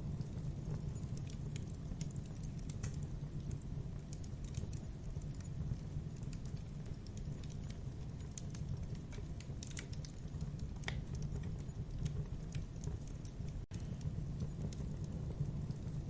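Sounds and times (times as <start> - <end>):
campfire flames rumbling: 0.0 - 16.0
wood crackling and popping: 0.0 - 16.0.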